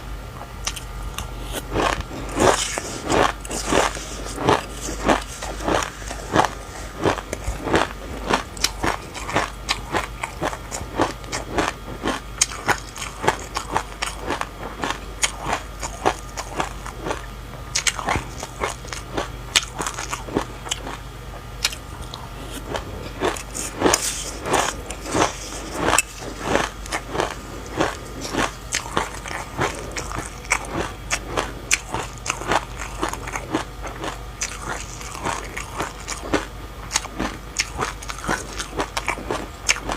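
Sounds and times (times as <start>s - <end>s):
fruit crunching while chewed: 0.3s - 39.9s.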